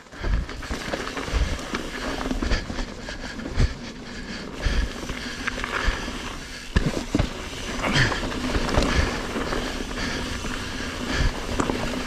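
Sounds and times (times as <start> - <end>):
bike chain and frame rattling: 0.0 - 12.0
bike tyres on loose ground: 0.0 - 12.0.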